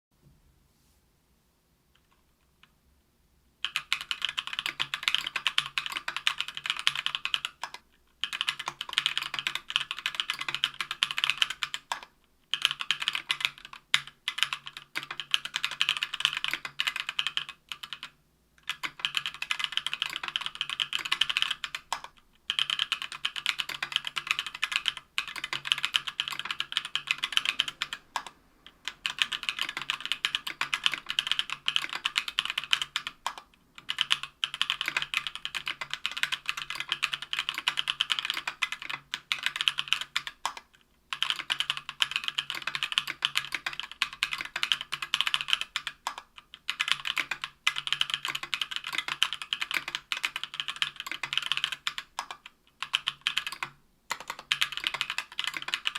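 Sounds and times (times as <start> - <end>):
fast typing on keyboard: 3.6 - 55.9.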